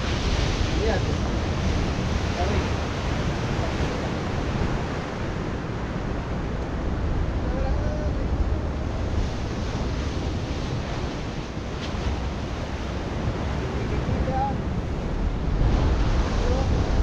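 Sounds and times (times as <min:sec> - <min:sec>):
ocean surf breaking over rocks: 0:00.0 - 0:17.0
wind rumbling on microphone: 0:00.0 - 0:17.0.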